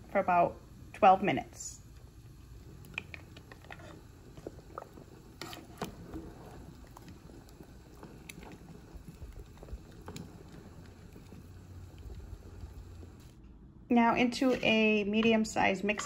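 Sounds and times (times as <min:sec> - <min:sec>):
water boiling and bubbling: 0:00.0 - 0:13.4.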